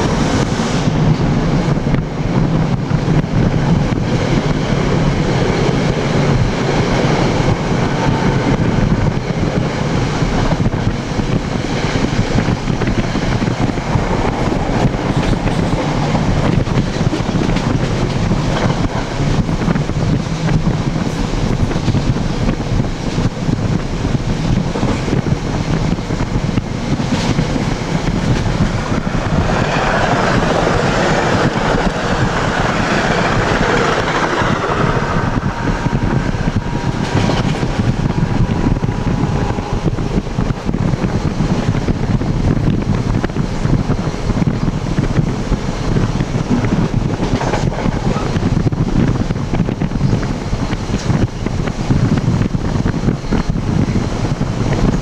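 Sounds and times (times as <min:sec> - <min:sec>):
rushing air: 0:00.0 - 0:55.0
train wheels rumbling on rails: 0:00.0 - 0:55.0.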